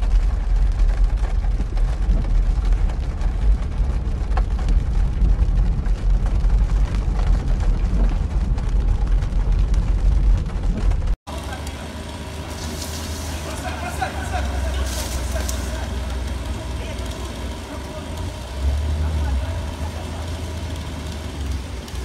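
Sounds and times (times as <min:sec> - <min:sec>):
car rumble from inside cabin: 0:00.0 - 0:22.0
water and rain hissing: 0:00.0 - 0:22.0.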